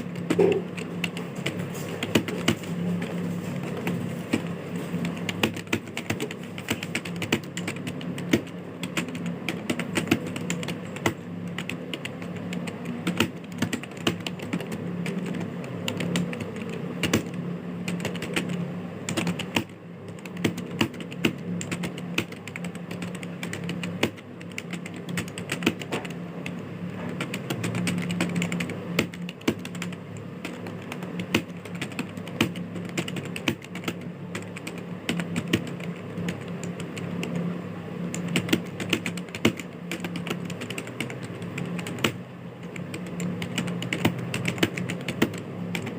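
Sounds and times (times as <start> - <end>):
fast keyboard typing: 0.0 - 45.9
steady low hum: 0.0 - 45.9.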